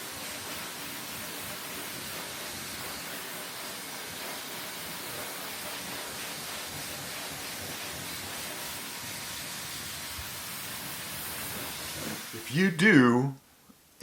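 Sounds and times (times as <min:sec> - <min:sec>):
pet dryer blowing air: 0:00.0 - 0:12.4.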